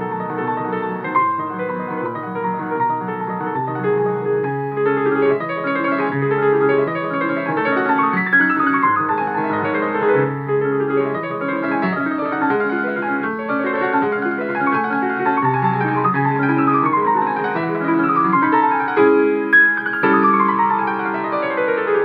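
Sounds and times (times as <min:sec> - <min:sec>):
solo piano music over speaker: 0:00.0 - 0:22.0.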